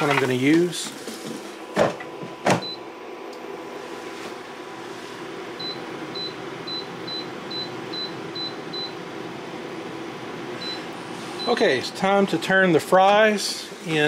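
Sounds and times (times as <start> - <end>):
steady fan hum: 0.0 - 14.0.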